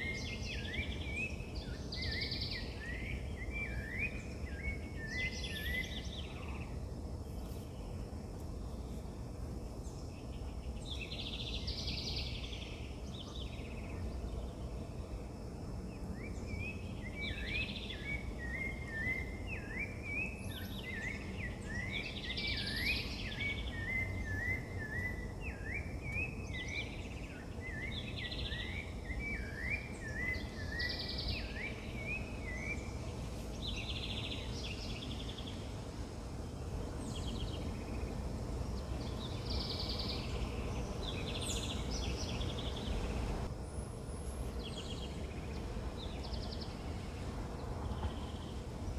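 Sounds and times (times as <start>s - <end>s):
birds singing: 0.0s - 48.9s
outdoor background rumble: 0.0s - 48.9s.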